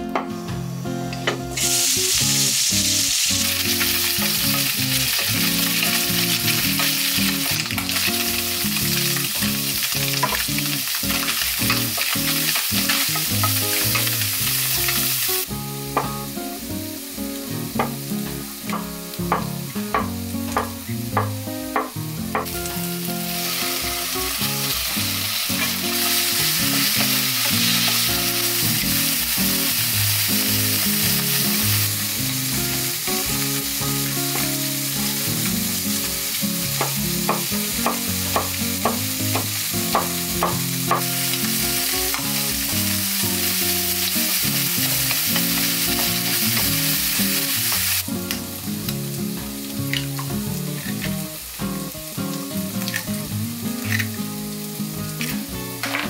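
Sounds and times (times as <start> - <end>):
loud steady hiss: 0.3 - 56.0.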